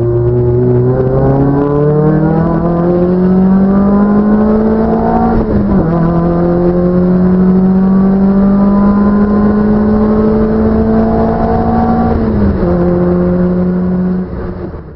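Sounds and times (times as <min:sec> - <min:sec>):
car engine accelerating: 0:00.0 - 0:14.9.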